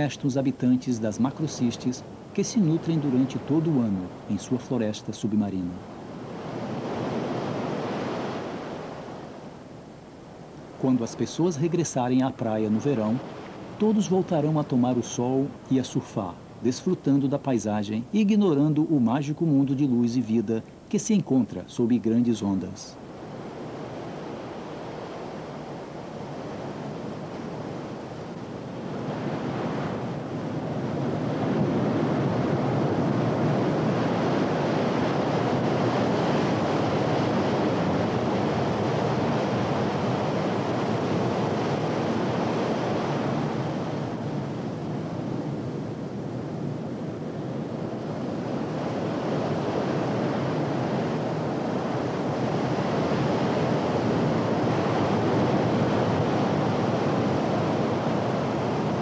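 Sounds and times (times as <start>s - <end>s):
heavy waves breaking: 0.0s - 59.0s.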